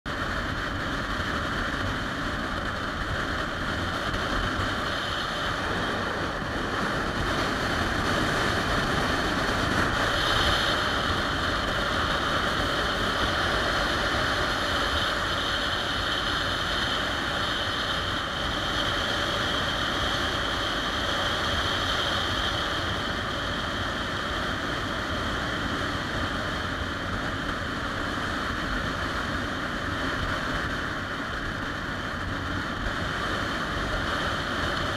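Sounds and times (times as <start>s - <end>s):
motorcycle road noise: 0.0s - 34.9s
wind rush: 0.1s - 34.9s.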